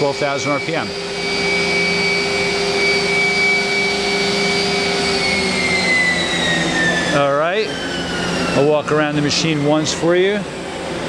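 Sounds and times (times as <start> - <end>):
mechanical hum: 0.0 - 11.0
spindle whining high-pitched: 0.0 - 11.0.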